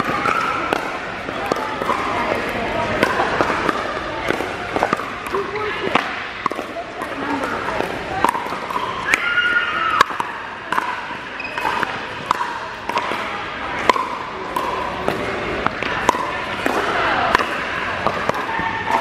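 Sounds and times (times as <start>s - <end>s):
ball bouncing on court: 0.0s - 19.0s
paddles hitting plastic ball: 0.0s - 19.0s.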